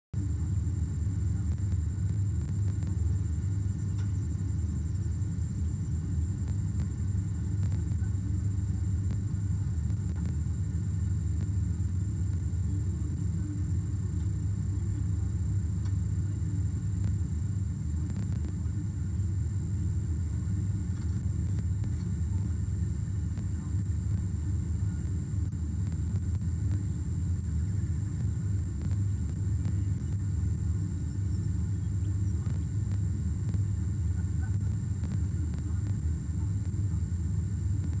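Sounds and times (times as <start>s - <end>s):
high-pitched whine: 0.2s - 38.0s.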